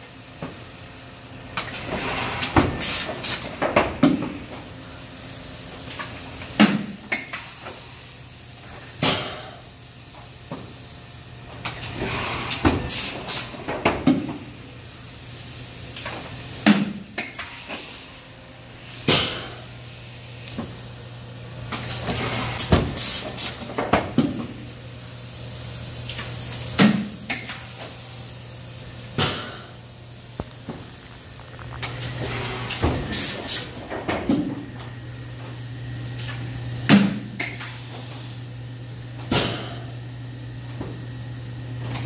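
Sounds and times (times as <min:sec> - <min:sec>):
thermoforming machine hum: 0:00.0 - 0:42.0.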